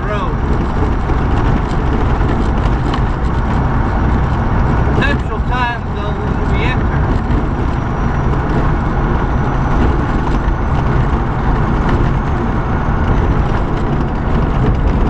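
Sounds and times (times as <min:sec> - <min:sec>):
road and tyre noise: 0:00.0 - 0:15.0
truck engine drone: 0:00.0 - 0:15.0.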